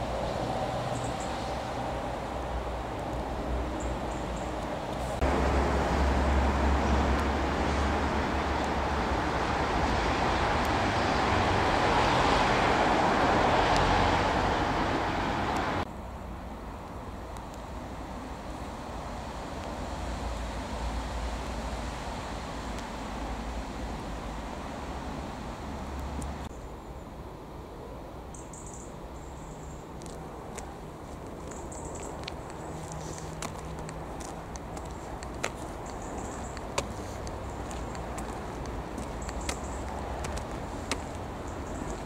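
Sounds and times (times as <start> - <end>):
rushing outdoor background noise: 0.0 - 42.0.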